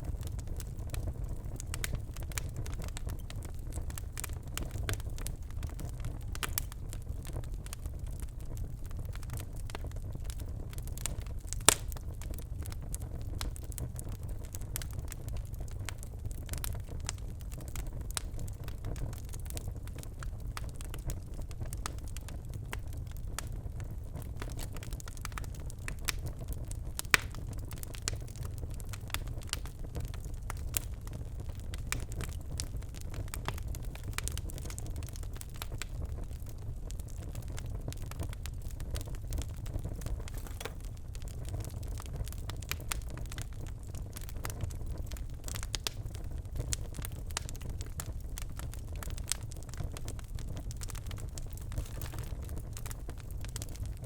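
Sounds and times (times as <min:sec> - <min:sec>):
low rumble of flame: 0:00.0 - 0:54.0
wood fire crackling and popping: 0:00.0 - 0:54.0.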